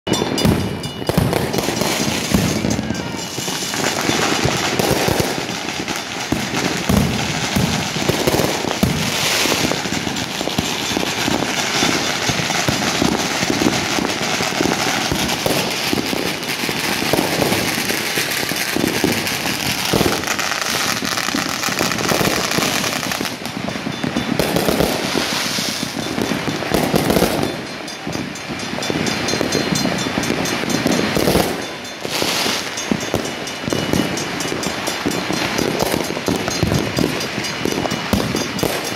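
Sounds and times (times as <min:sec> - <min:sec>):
fireworks bangs and crackling: 0:00.1 - 0:38.9.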